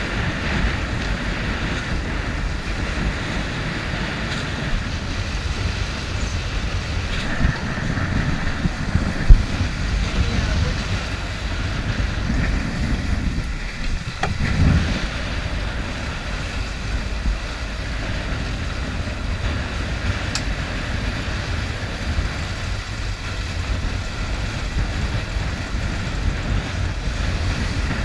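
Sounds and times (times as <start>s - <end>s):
waves rushing along hull: 0.0s - 28.0s
wind buffeting microphone: 0.0s - 28.0s.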